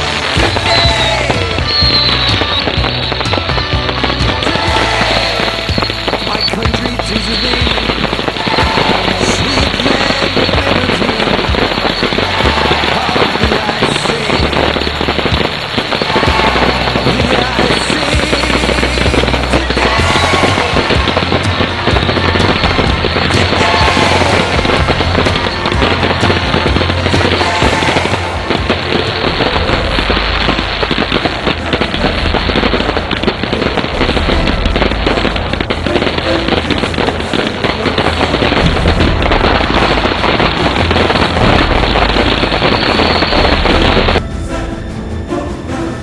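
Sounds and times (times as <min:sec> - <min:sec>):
fireworks bangs and crackle: 0:00.0 - 0:44.2
music: 0:00.0 - 0:46.0.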